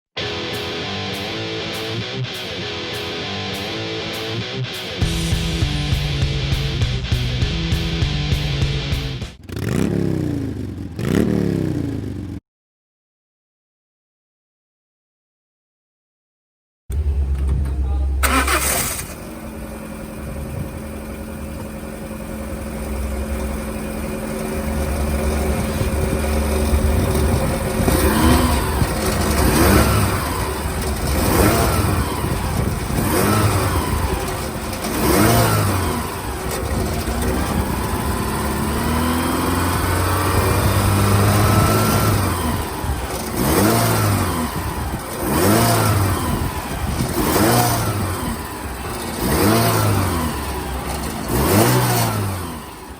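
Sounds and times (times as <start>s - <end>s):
car engine idling and revving: 5.0s - 12.4s, 16.9s - 52.9s.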